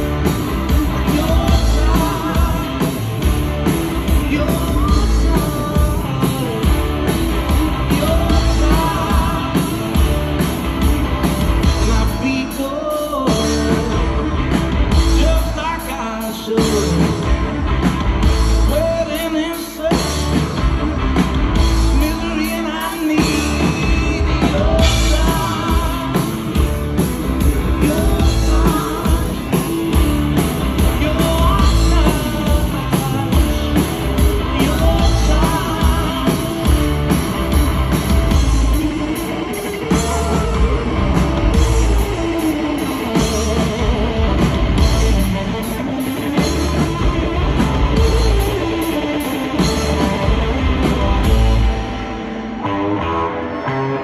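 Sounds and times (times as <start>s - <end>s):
person singing lead vocal: 0.0s - 17.5s, 18.5s - 20.6s, 21.6s - 54.0s
drum kit beat: 0.0s - 52.1s
electric guitar: 0.0s - 54.0s.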